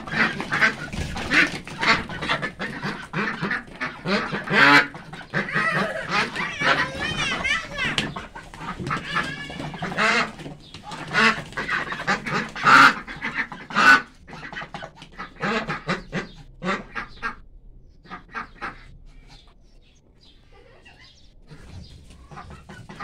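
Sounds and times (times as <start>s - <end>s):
ducks quacking: 0.0s - 23.0s.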